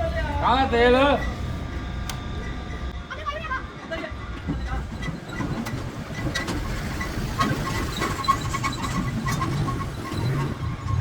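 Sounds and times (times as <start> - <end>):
mechanical engine hum: 0.0 - 11.0.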